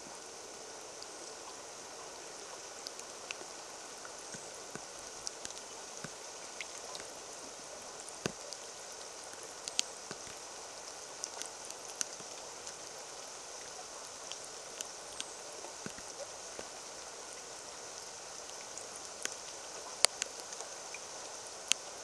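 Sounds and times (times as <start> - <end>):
rain hissing: 0.0 - 22.0
raindrops splashing in puddle: 2.1 - 22.0.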